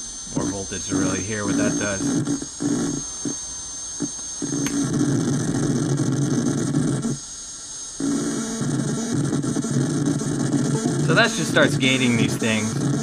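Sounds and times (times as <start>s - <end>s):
low buzzy synth drone: 0.0s - 13.0s.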